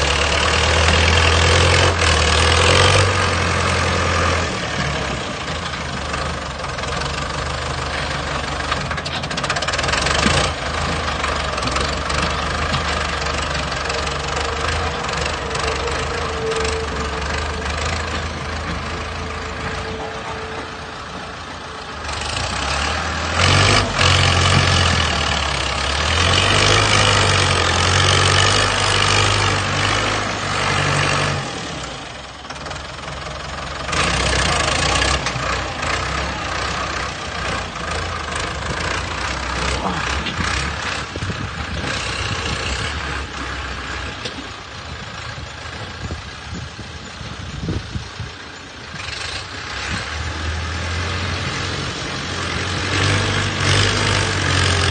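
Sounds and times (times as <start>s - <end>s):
heavy machine engine working: 0.0s - 54.9s.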